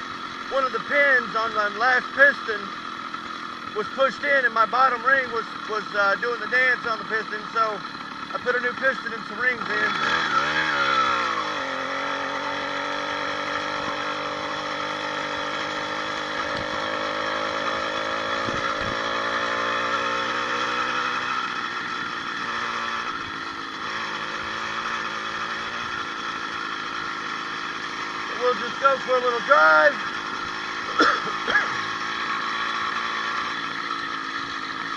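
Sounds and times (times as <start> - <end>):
two-stroke engine idling: 0.0 - 34.9.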